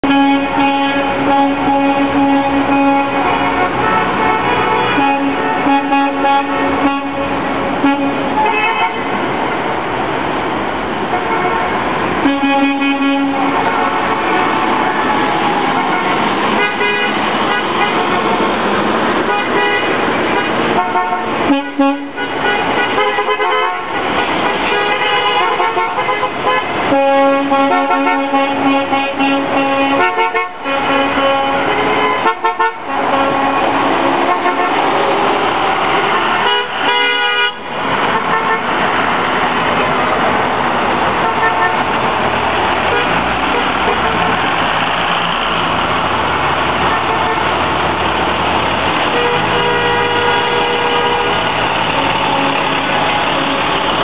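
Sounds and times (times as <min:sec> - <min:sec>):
bus horn blasts: 0:00.0 - 0:09.2, 0:11.1 - 0:18.4, 0:19.2 - 0:34.9, 0:35.8 - 0:38.8, 0:41.1 - 0:42.0, 0:42.8 - 0:44.4, 0:46.8 - 0:47.6, 0:49.0 - 0:54.0
buses driving past: 0:00.0 - 0:54.0
street noise: 0:00.0 - 0:54.0.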